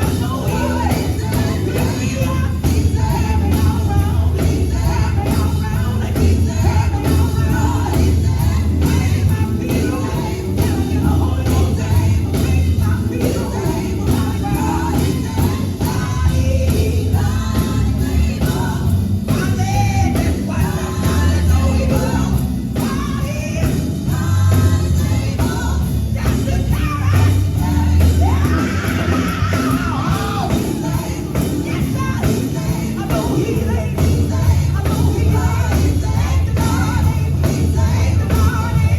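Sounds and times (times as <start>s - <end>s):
heavy bass line: 0.0s - 38.9s
steady drum beat: 0.0s - 38.9s
vocal group singing: 0.0s - 38.9s.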